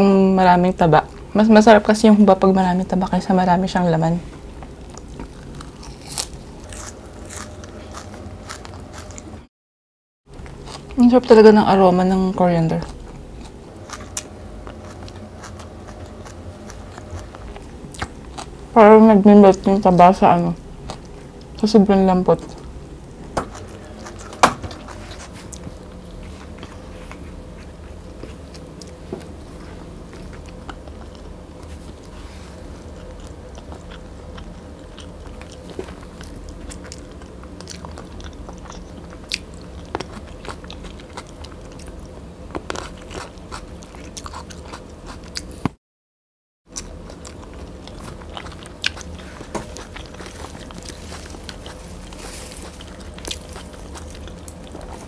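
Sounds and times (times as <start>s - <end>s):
close chewing of food: 4.5s - 9.5s, 10.3s - 11.2s, 12.6s - 18.8s, 19.5s - 21.6s, 22.3s - 45.8s, 46.7s - 55.0s.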